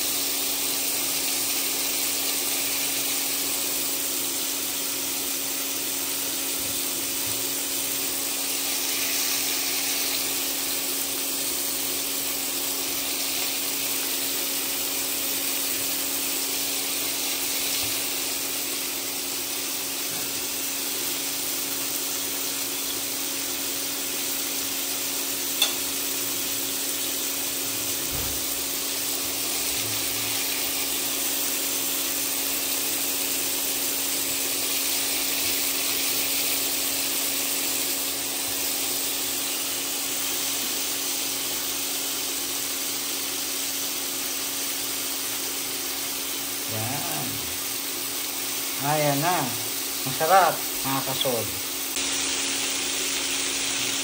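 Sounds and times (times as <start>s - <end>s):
meat sizzling in hot fat: 0.0s - 54.0s.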